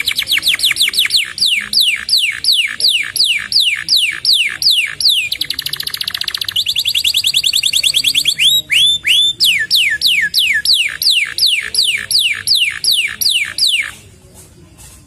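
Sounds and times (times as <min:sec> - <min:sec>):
canary singing: 0:00.0 - 0:14.1.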